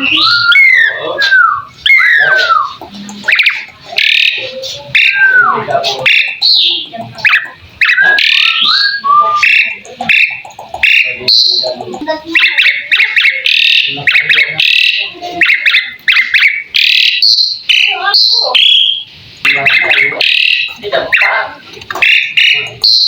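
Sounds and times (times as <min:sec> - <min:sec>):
starling singing: 0:00.0 - 0:23.0.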